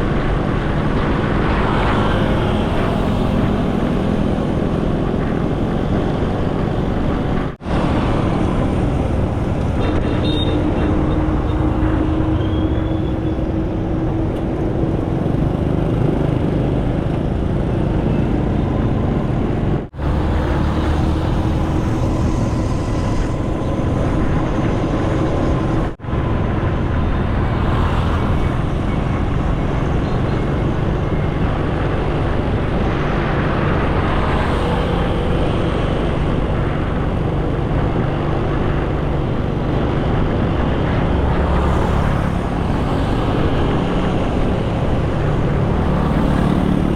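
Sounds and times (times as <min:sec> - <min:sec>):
road traffic: 0:00.0 - 0:46.9
wind rushing over microphone: 0:00.0 - 0:46.9.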